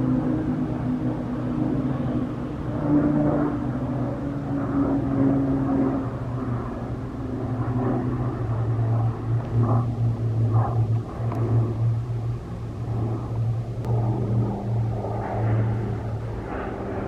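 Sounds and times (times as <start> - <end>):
propeller aircraft drone: 0.0 - 17.0.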